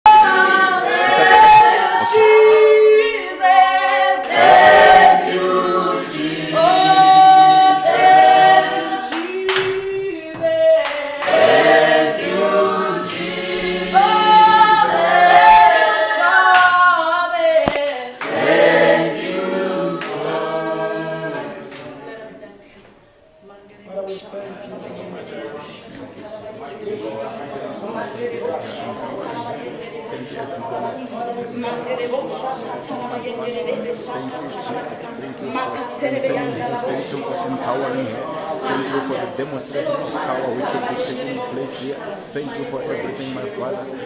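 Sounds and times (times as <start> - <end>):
choir singing a cappella: 0.0 - 23.0, 24.6 - 44.0.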